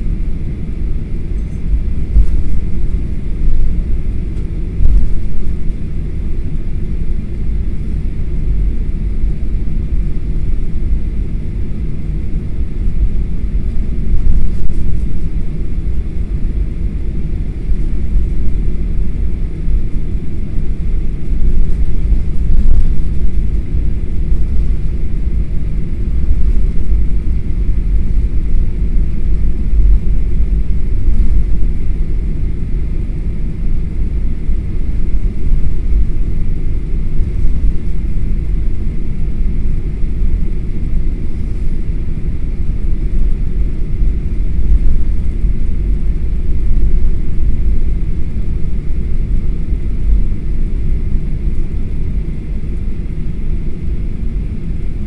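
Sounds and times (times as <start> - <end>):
aircraft engines idling: 0.0 - 55.0.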